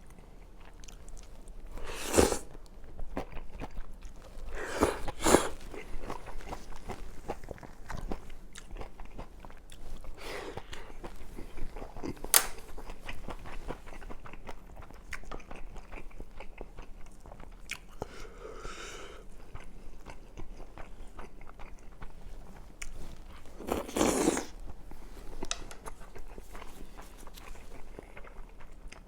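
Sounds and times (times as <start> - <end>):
wet chewing and mouth clicks: 0.0 - 18.4, 19.2 - 29.0.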